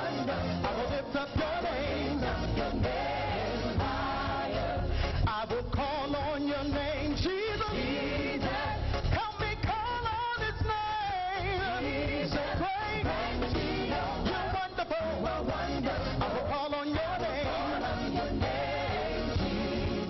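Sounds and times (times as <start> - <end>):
band playing steady beat: 0.0 - 20.0.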